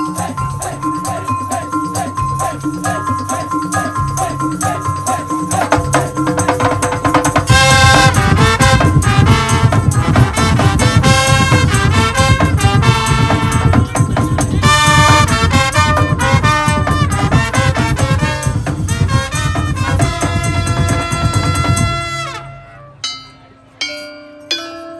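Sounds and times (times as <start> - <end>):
percussion ensemble playing: 0.0 - 24.9.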